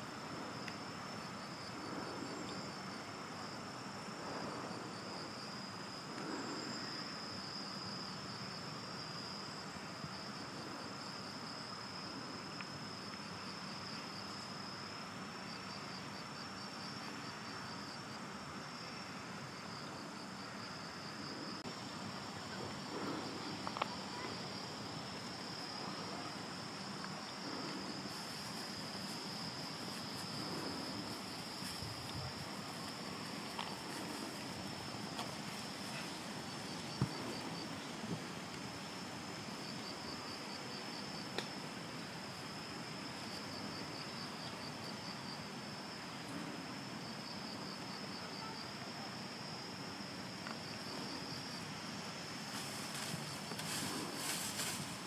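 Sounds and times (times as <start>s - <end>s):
crickets trilling: 0.0s - 55.0s
faint outdoor background noise: 0.0s - 55.0s.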